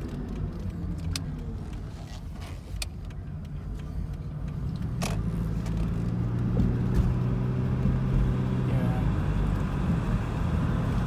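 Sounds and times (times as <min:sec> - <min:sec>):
car road and drivetrain rumble: 0:00.0 - 0:11.0.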